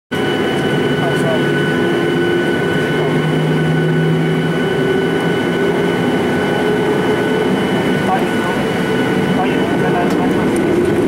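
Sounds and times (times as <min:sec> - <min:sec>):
aircraft cabin engine whine: 0:00.1 - 0:11.0.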